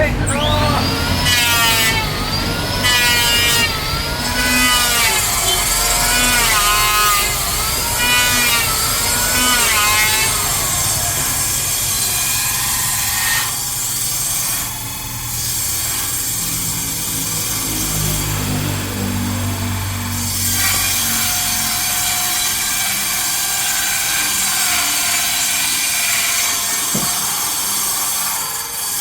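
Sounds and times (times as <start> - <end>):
electric power saw cutting wood: 0.0 - 29.0.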